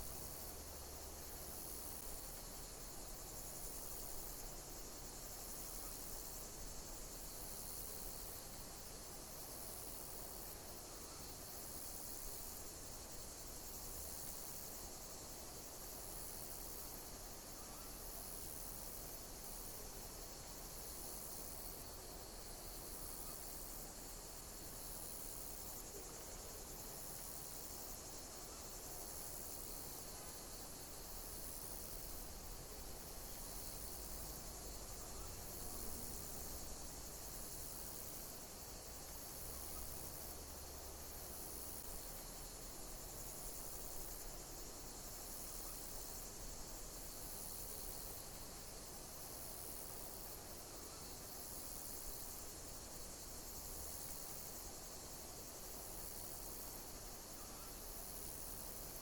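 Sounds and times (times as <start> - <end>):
high hiss of insects: 0.0 - 59.0
insect chirping trill: 0.0 - 59.0.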